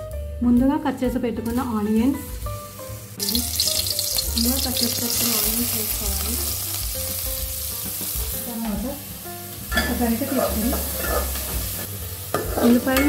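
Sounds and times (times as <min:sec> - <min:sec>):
onions sizzling in hot oil: 0:01.4 - 0:13.0.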